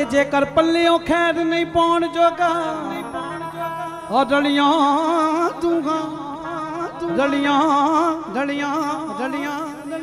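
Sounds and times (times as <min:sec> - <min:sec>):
man singing with vibrato: 0:00.0 - 0:10.0.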